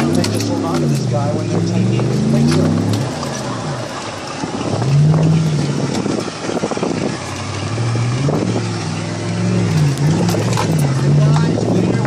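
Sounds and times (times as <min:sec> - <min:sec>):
mud and water spattering: 0:00.0 - 0:12.0
truck engine revving: 0:00.0 - 0:12.0.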